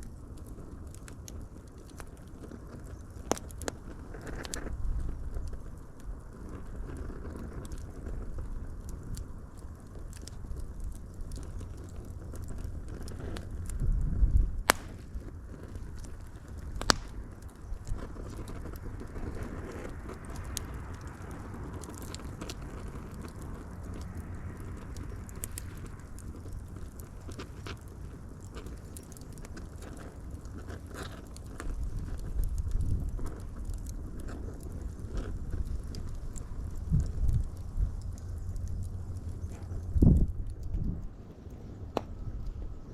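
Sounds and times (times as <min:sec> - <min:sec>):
sharp fire pops: 0:00.0 - 0:42.8
wood fire crackling: 0:00.0 - 0:42.9.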